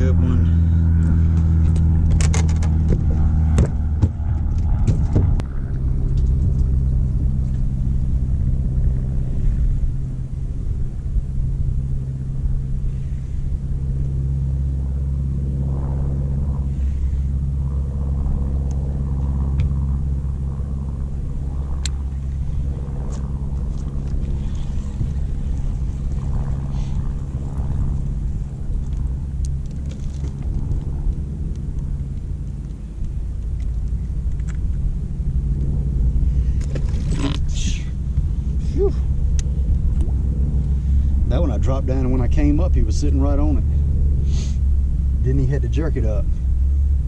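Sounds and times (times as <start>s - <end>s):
boat motor humming: 0.0s - 47.0s.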